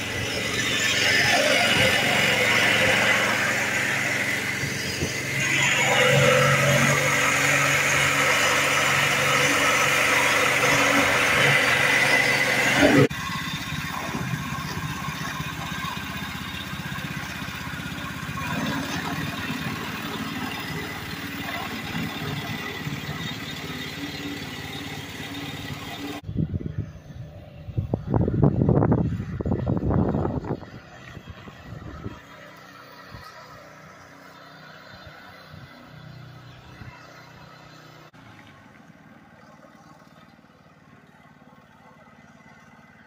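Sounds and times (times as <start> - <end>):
small engine running: 0.0 - 43.0.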